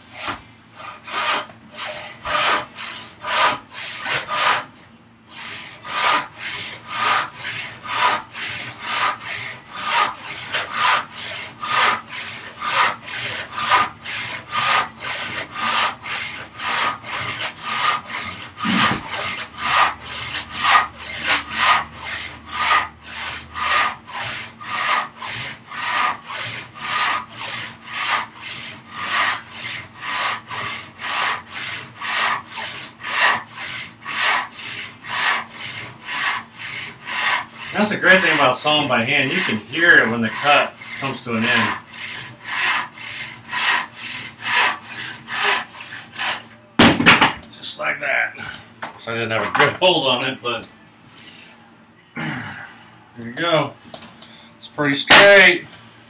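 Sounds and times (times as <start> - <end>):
handsaw sawing wood: 0.0 - 46.5, 55.1 - 55.5.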